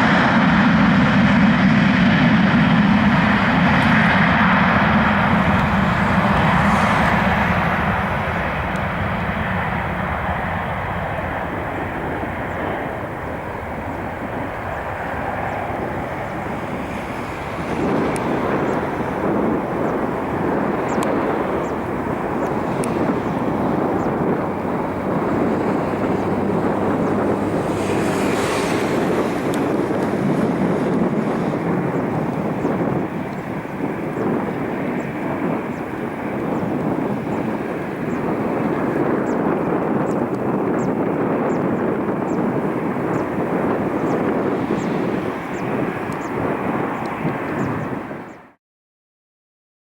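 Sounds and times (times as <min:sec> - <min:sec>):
jet engines roaring: 0:00.0 - 0:48.5.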